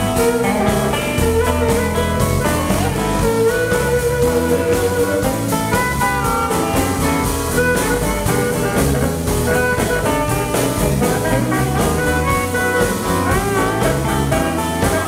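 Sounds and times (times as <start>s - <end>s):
amplified harmonica solo: 0.0s - 15.0s
drum kit beat: 0.0s - 15.0s
electric guitar: 0.0s - 15.0s
keyboard: 0.0s - 15.0s.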